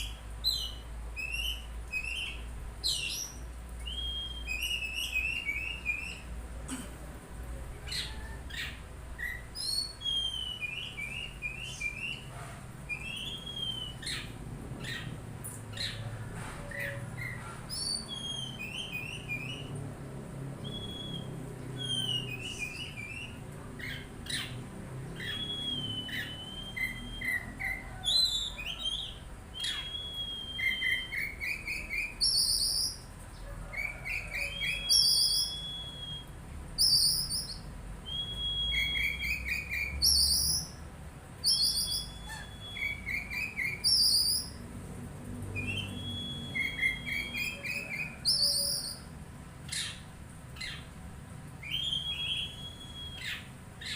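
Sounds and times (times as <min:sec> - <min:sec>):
bird singing: 0:00.0 - 0:06.4, 0:07.8 - 0:12.3, 0:12.9 - 0:16.1, 0:16.7 - 0:19.8, 0:20.6 - 0:40.8, 0:41.4 - 0:44.6, 0:45.5 - 0:49.1, 0:49.7 - 0:51.0, 0:51.6 - 0:53.9.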